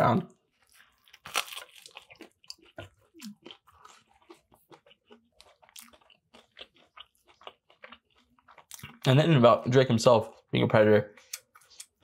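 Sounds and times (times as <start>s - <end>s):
person chewing crispy food: 0.3s - 12.0s.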